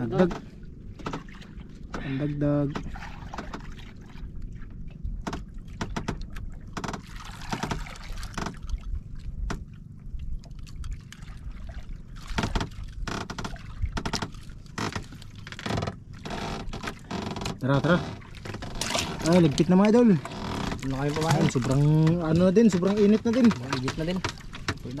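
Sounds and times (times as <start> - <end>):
knocks and scrapes on boat: 0.0 - 9.7, 12.0 - 25.0
water lapping against boat hull: 0.0 - 25.0.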